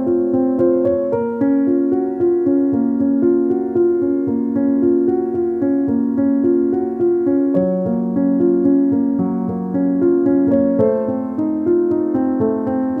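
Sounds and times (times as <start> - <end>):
keyboard chords music: 0.0 - 13.0.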